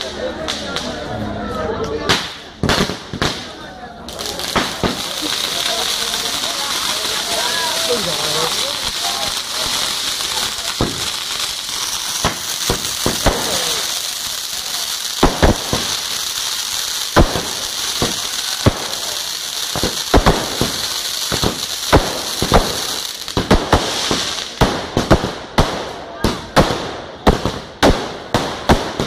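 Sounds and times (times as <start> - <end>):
fireworks hissing and crackling: 0.0 - 29.0
firecracker bangs: 2.0 - 29.0.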